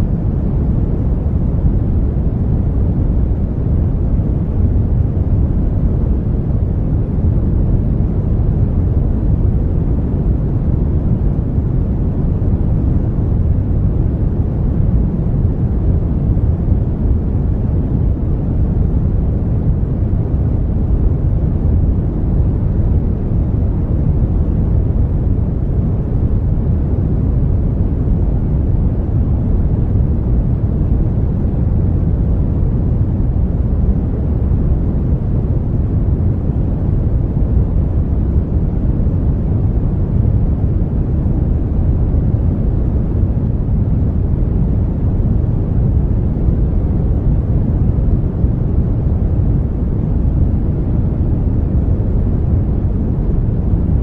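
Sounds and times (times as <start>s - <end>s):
brown noise: 0.0s - 54.0s.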